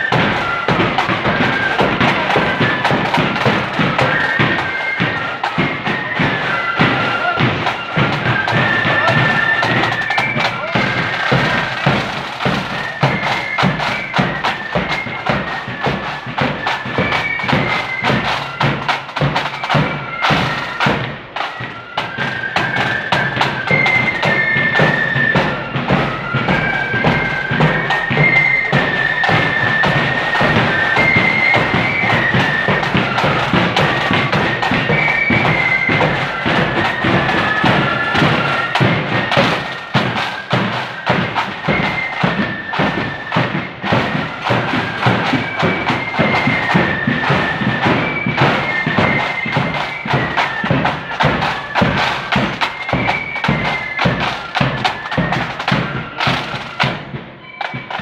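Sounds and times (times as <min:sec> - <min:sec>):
flute melody: 0:00.0 - 0:58.0
side drums and bass drum: 0:00.0 - 0:58.0.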